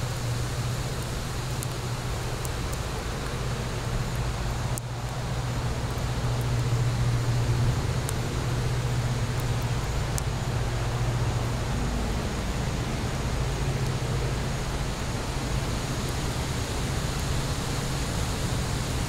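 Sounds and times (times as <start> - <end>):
fire burning: 0.0 - 19.0
fire crackle: 0.0 - 19.0.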